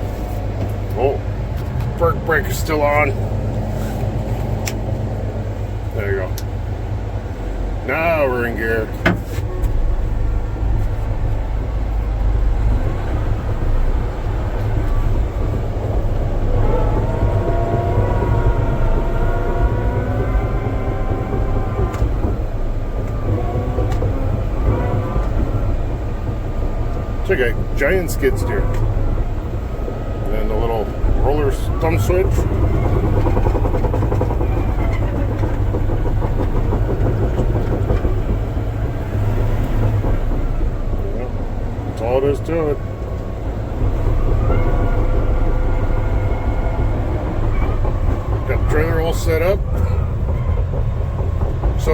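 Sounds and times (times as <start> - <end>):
diesel engine deep rumble: 0.0 - 51.9
steel tracks clanking: 0.0 - 51.9
whining tone rising in pitch: 9.4 - 51.9.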